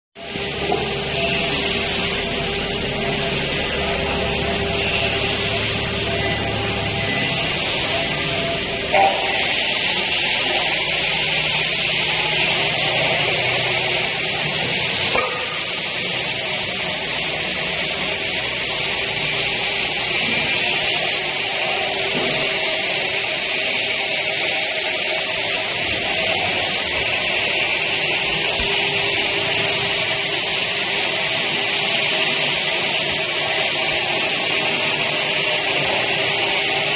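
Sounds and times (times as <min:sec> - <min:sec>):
high spindle whine: 0:00.2 - 0:36.9.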